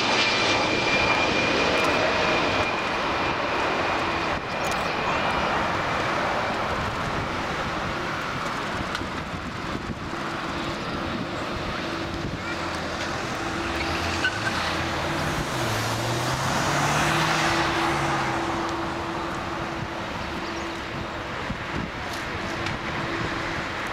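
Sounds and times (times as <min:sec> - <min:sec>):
jet engine rushing: 0:00.0 - 0:23.9.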